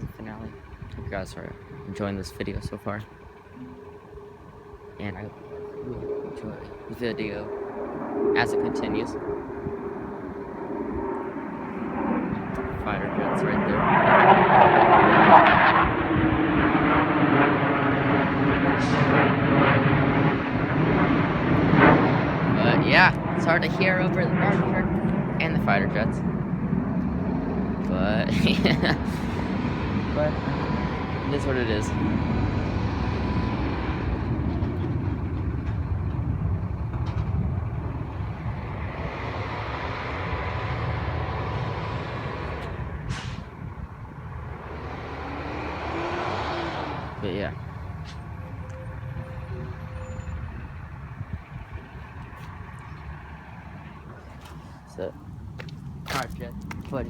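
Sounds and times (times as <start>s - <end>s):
fighter jets passing overhead: 0.0s - 57.0s.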